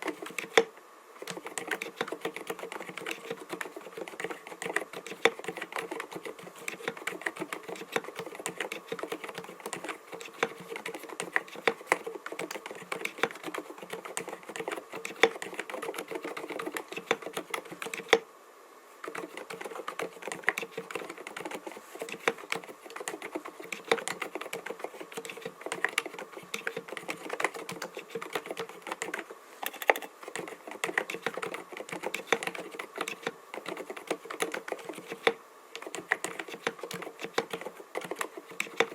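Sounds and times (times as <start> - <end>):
muted keyboard typing: 0.0 - 18.2, 19.0 - 38.9.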